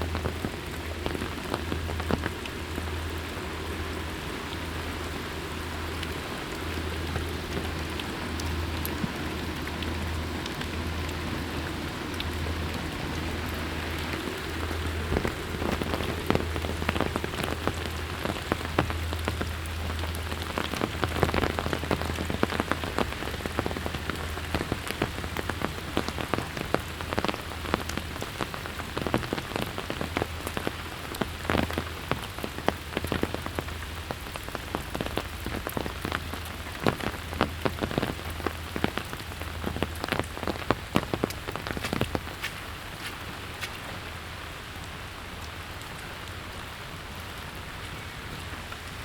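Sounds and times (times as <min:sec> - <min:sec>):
sharp raindrop taps: 0:00.0 - 0:44.1
steady rain hiss: 0:00.0 - 0:49.0.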